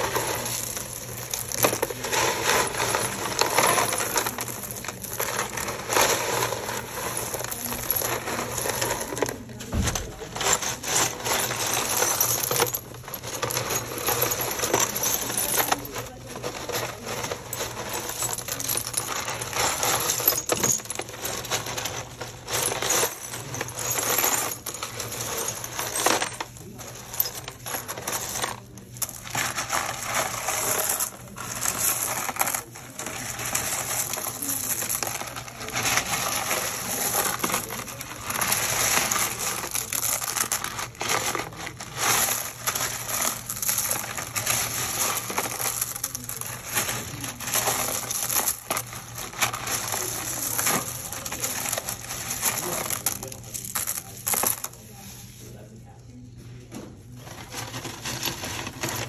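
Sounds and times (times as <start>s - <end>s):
ceramic tile pieces clinking: 0.0s - 55.2s.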